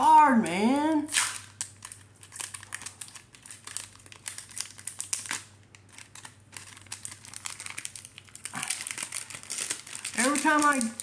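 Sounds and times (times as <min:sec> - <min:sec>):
foil wrapper crinkling: 0:00.7 - 0:11.0.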